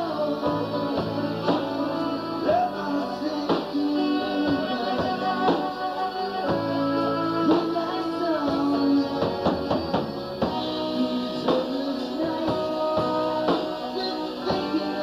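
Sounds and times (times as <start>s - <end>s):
live rock band playing: 0.0s - 15.0s
steady drum beat: 0.0s - 15.0s.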